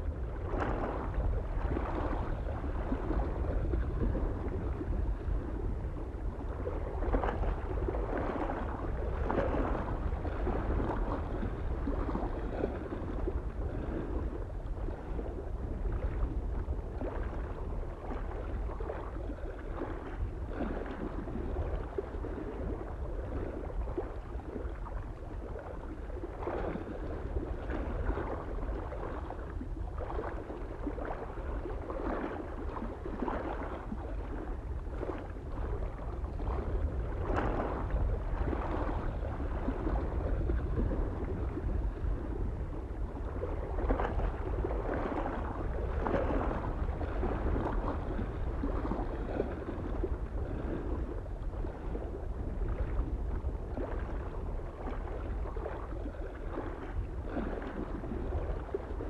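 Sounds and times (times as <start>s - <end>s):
low wind rumble: 0.0s - 59.0s
small waves lapping on shore: 0.0s - 59.0s.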